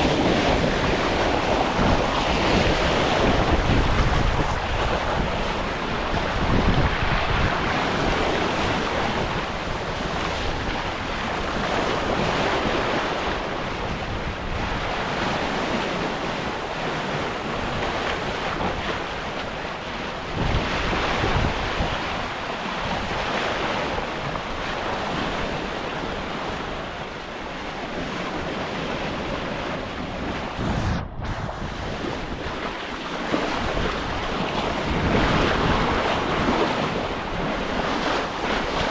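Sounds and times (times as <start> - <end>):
breaking sea: 0.0 - 38.9
wind: 0.0 - 38.9
wind buffeting microphone: 0.0 - 38.9.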